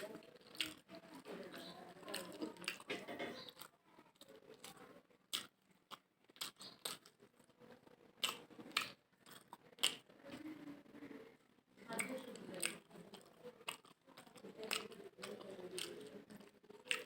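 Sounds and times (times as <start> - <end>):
person chewing food: 0.0 - 10.5, 11.8 - 17.0.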